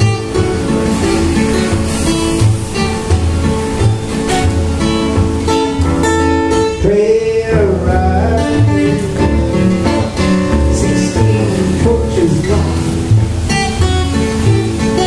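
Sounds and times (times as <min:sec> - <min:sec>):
acoustic guitar strumming: 0:00.0 - 0:15.0
keyboard accompaniment: 0:00.0 - 0:15.0.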